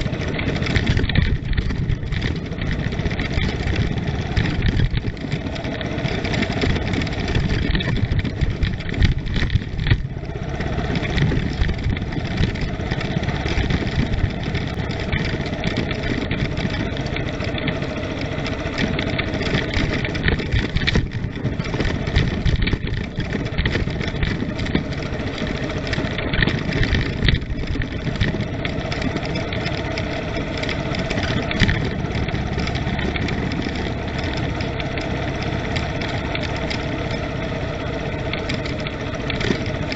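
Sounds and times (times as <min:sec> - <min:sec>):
road noise: 0:00.0 - 0:39.9
vehicle engine running: 0:00.0 - 0:39.9
vehicle jolts: 0:00.0 - 0:39.9.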